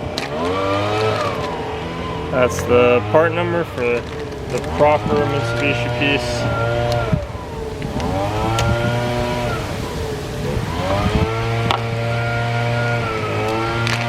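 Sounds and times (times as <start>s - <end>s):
motor pitch dropping and rising: 0.0s - 14.0s.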